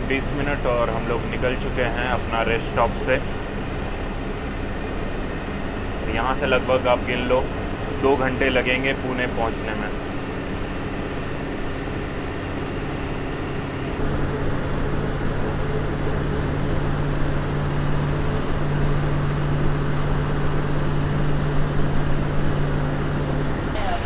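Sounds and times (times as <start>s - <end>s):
bus engine drone: 0.0s - 24.0s
road noise: 0.0s - 24.0s.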